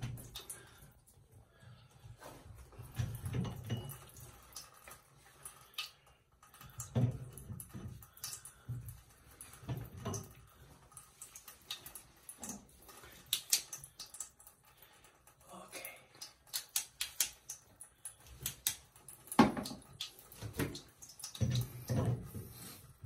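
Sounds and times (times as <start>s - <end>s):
water trickling: 0.0s - 23.0s.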